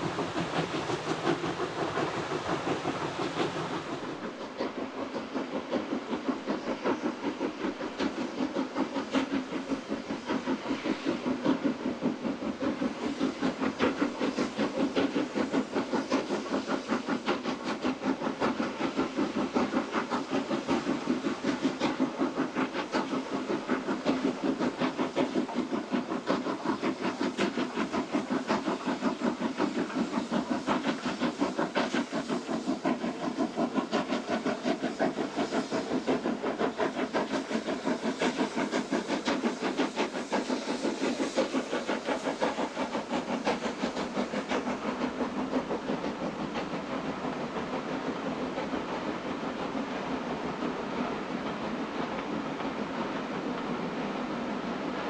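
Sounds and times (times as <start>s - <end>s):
hissing steam: 0.0s - 55.0s
steam locomotive chuffing: 0.0s - 55.0s.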